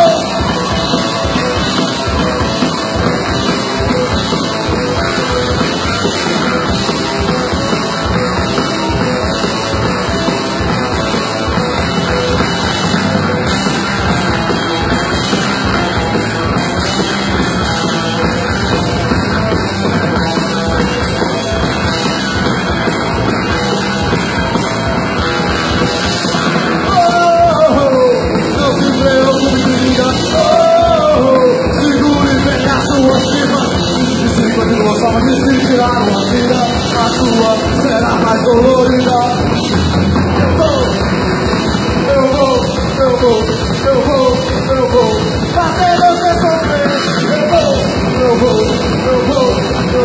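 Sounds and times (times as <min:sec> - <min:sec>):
bass guitar: 0:00.0 - 0:50.0
drum kit: 0:00.0 - 0:50.0
electric guitar: 0:00.0 - 0:50.0
high sliding guitar notes: 0:00.0 - 0:50.0.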